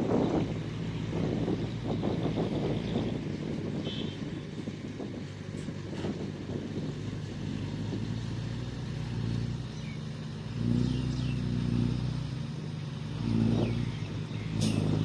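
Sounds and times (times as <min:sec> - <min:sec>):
bulldozer diesel engine under load: 0:00.0 - 0:15.0.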